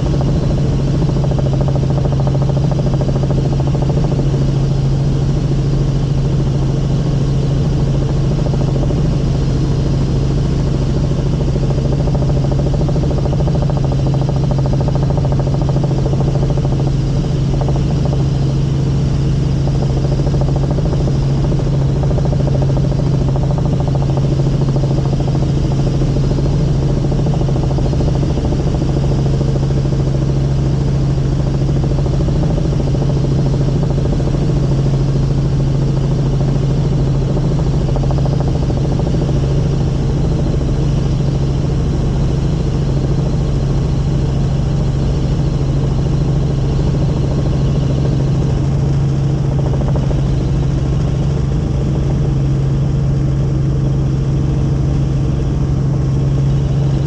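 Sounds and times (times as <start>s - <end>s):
helicopter engine and rotors droning: 0.0s - 57.0s.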